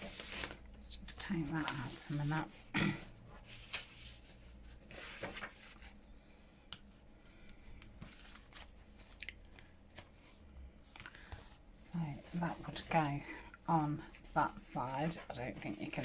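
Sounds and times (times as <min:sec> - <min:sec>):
paper pages rustling: 0:00.0 - 0:02.7, 0:03.4 - 0:06.0, 0:06.8 - 0:13.4, 0:14.0 - 0:16.0.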